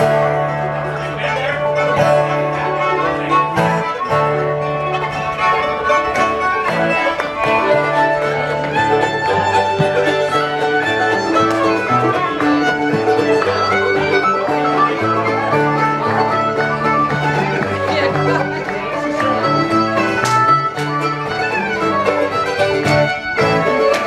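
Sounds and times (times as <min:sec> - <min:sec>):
fiddle melody: 0:00.0 - 0:24.0
strummed guitar: 0:00.0 - 0:24.0.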